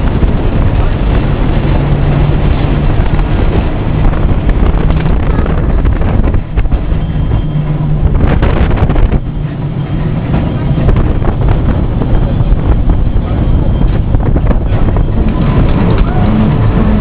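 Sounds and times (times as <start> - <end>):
low hum: 0.0 - 17.0
tram rumbling on rails: 0.0 - 17.0
wind buffeting microphone: 0.0 - 17.0.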